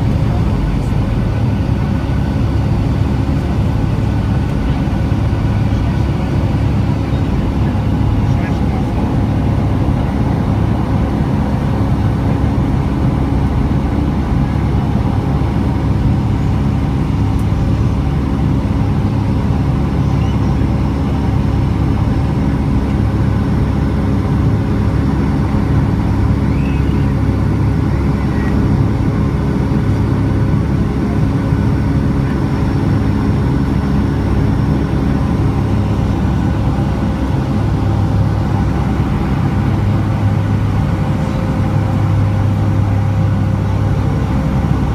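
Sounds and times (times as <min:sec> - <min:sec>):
jet engine noise: 0:00.0 - 0:44.9
low cabin hum: 0:00.0 - 0:44.9.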